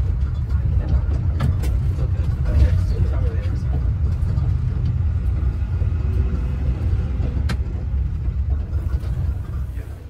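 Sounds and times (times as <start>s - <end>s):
vehicle rumble from inside: 0.0s - 10.0s.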